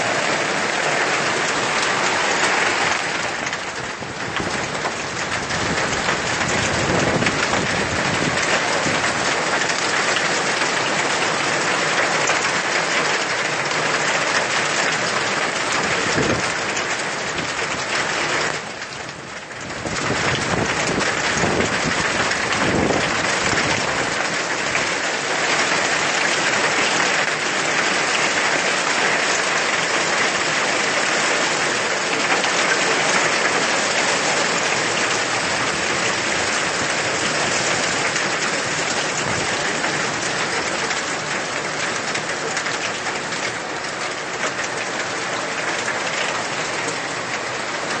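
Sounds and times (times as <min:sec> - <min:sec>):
heavy rain pouring on a street: 0:00.0 - 0:48.0.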